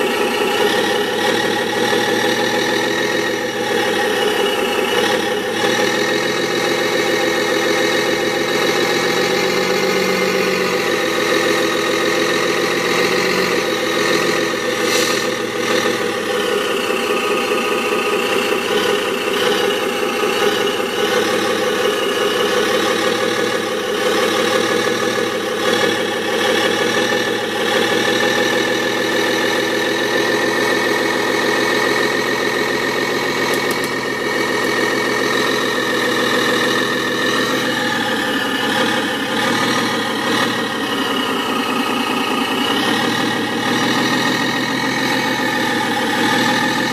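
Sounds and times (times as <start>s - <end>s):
simulated truck engine idling: 0.0s - 46.9s.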